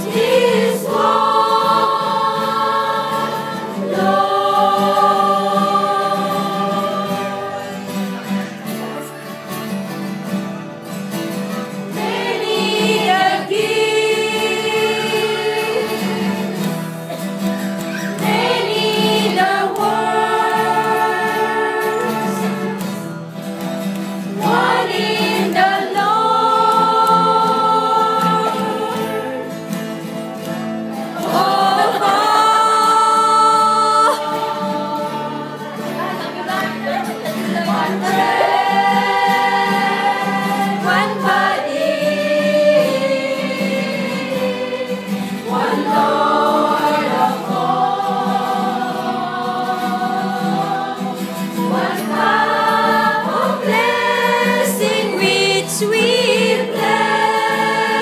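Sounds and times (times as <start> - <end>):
choir singing long held notes: 0.0 - 9.3, 11.7 - 23.1, 24.2 - 58.0.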